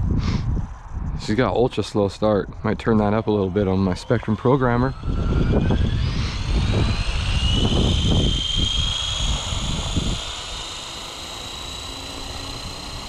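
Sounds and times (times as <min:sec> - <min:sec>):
electric helicopter motor whine: 0:00.0 - 0:13.0
low gusty rushing: 0:00.0 - 0:13.0.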